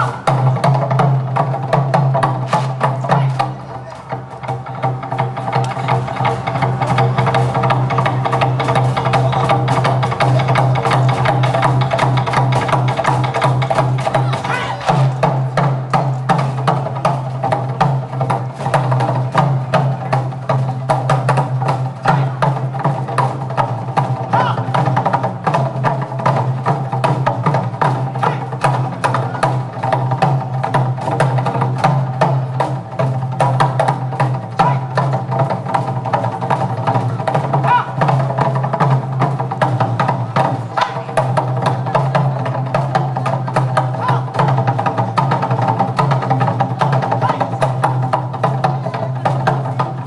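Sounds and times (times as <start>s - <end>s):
drum ensemble playing fast rhythm: 0.0s - 50.0s.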